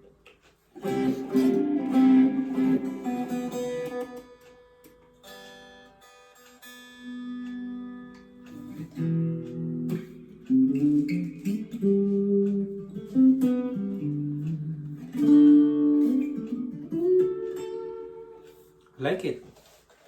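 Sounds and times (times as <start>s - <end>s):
clean electric guitar playing: 0.8s - 19.0s.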